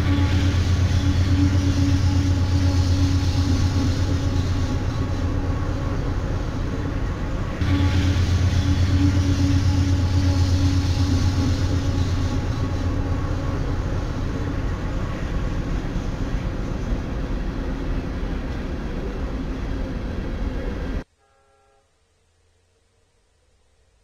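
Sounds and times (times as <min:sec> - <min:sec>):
diesel locomotive engine drone: 0:00.0 - 0:21.1
wheel and rail noise: 0:00.0 - 0:21.1.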